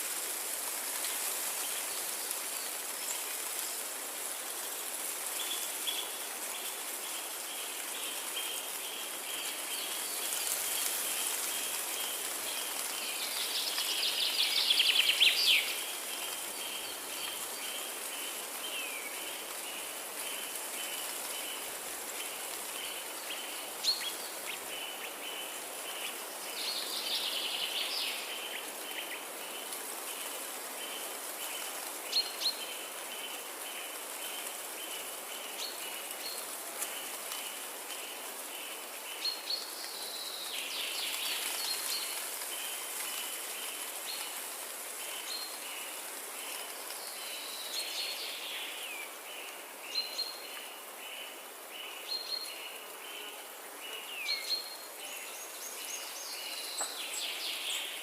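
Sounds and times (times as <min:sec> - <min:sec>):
faint high hiss: 0:00.0 - 0:58.0.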